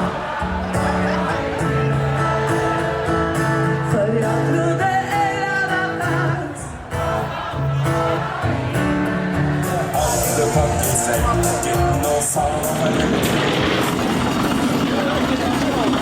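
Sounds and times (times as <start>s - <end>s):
person singing: 0.0s - 8.6s, 9.3s - 13.6s.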